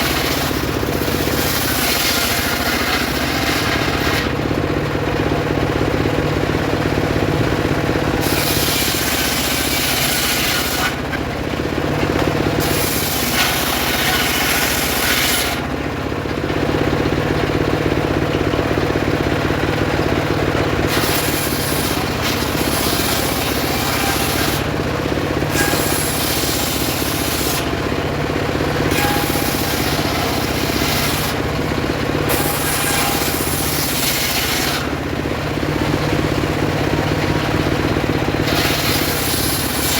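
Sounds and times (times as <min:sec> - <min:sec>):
circular saw cutting wood: 0:00.0 - 0:04.6, 0:06.8 - 0:16.3, 0:19.6 - 0:39.9.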